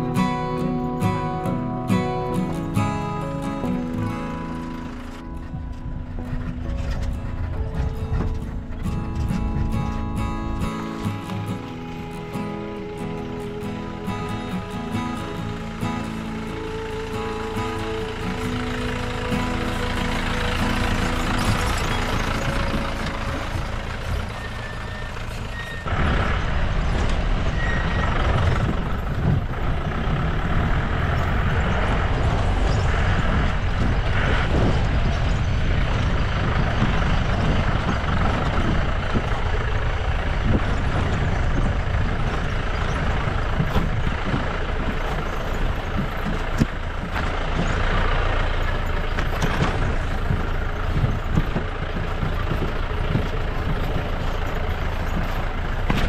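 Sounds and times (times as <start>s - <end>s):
jeep engine drone: 0.0s - 56.0s
knocks and rattles over bumps: 0.0s - 56.0s.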